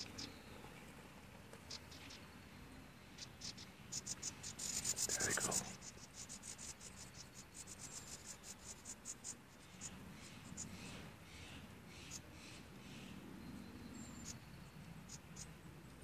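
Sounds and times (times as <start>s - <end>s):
nestling birds cheeping: 0.0s - 0.8s, 1.6s - 16.0s.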